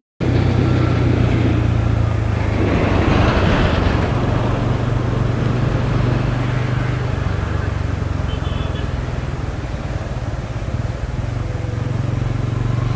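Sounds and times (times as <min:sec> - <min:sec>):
motorcycle engine running: 0:00.2 - 0:12.9
road noise: 0:00.2 - 0:12.9
wind noise: 0:00.2 - 0:12.9.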